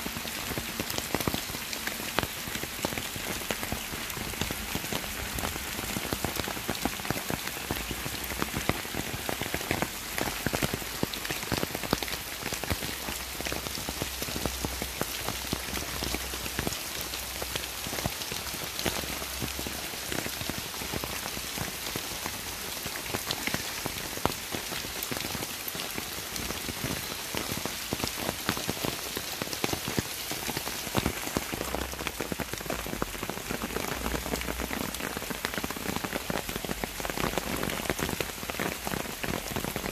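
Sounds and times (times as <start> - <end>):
rain falling on leaves: 0.0 - 39.9
raindrops ticking close: 0.0 - 39.9.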